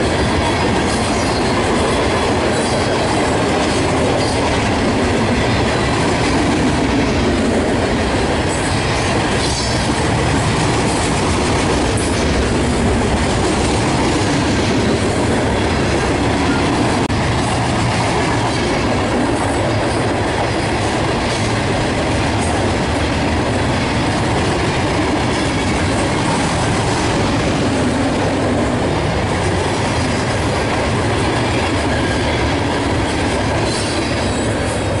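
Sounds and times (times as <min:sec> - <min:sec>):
freight train wheels on rail: 0:00.0 - 0:35.0.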